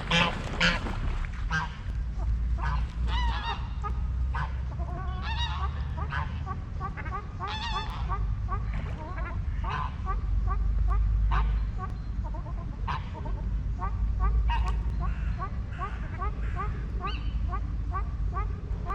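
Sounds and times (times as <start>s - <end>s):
geese and ducks honking: 0.0s - 18.9s
steady low rumble: 0.0s - 18.9s.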